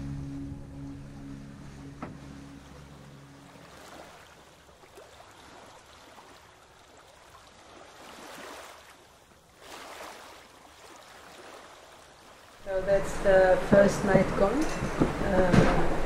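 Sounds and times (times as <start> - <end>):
sea water rushing past hulls: 0.0 - 16.0.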